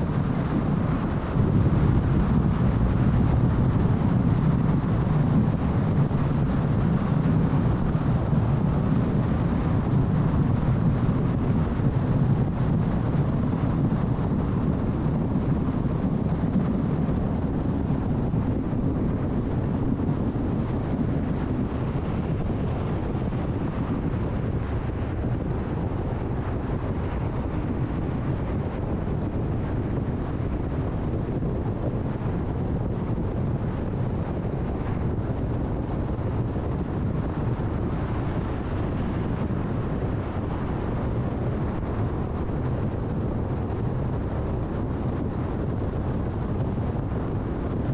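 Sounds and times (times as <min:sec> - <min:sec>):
wind: 0:00.0 - 0:47.9.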